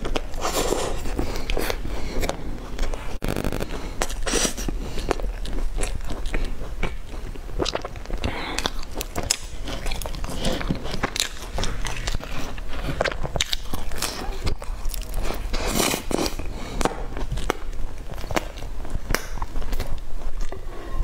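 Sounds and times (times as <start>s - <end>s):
chewing and lip smacks: 1.2s - 20.6s.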